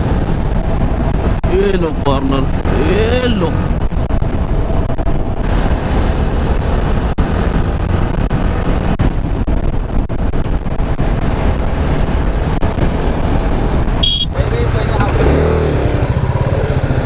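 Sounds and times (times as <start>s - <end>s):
wind rushing over microphone: 0.0s - 17.0s
motorcycle engine running: 2.5s - 17.0s.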